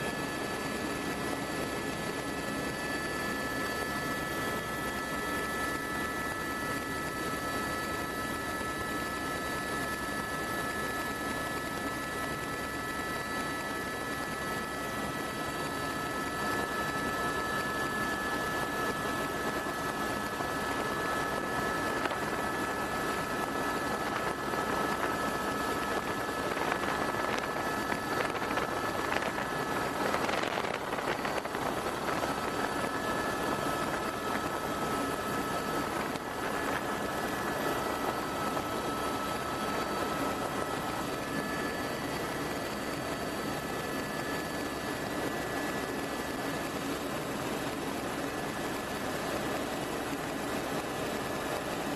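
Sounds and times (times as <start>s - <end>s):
helicopter rotor and engine noise: 0.0s - 51.9s.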